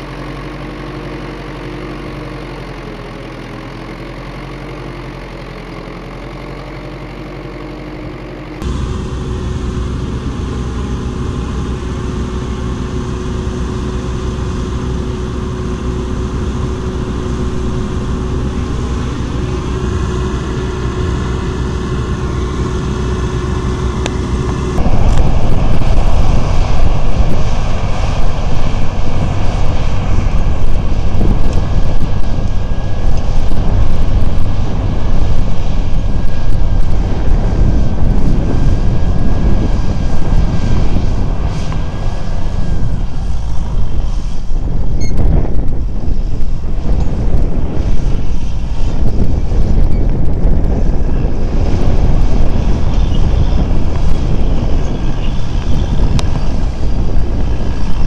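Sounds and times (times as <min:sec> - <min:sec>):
combine harvester engine running: 0:00.0 - 0:58.0
tractor engine working under load: 0:00.0 - 0:58.0
wind rushing on microphone: 0:08.6 - 0:58.0.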